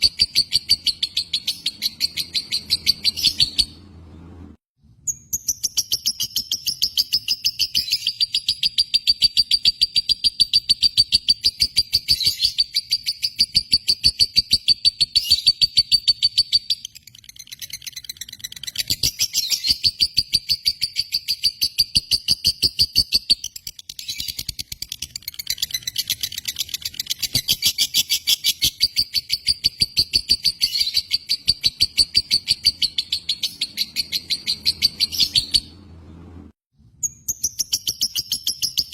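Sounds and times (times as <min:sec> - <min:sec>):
lovebird chattering song: 0:00.0 - 0:03.8, 0:05.2 - 0:35.8.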